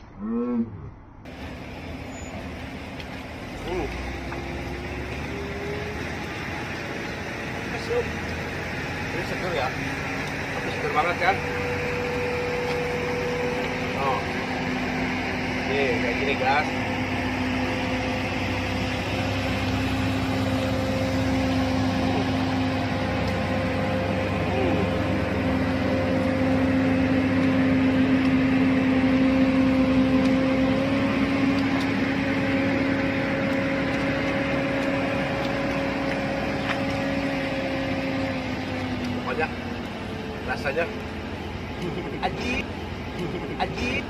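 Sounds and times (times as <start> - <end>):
mechanical drone: 1.0 - 44.0.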